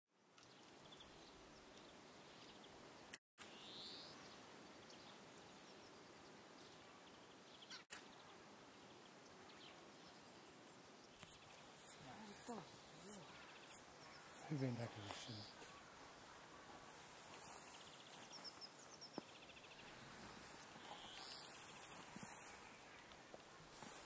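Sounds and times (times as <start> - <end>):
small birds chirping: 0.4 - 2.8, 3.4 - 24.0.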